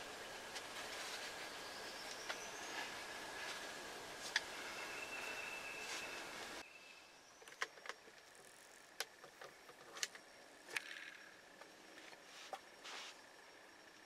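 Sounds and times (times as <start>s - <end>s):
faint high-pitched tones: 0.0s - 14.0s.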